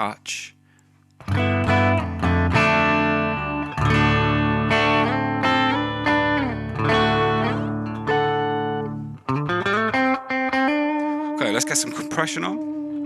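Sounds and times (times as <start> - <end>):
electric guitar chords: 1.2 - 13.0.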